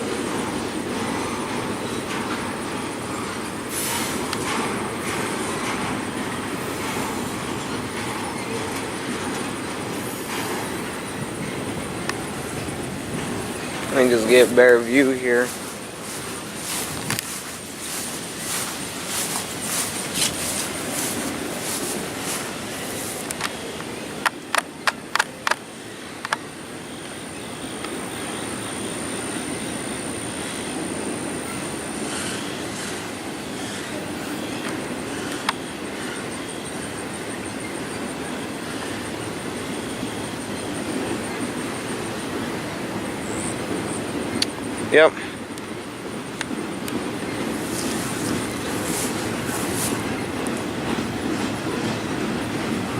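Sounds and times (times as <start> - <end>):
freight train rolling past: 0.0 - 52.9
thin high whine: 0.0 - 52.9.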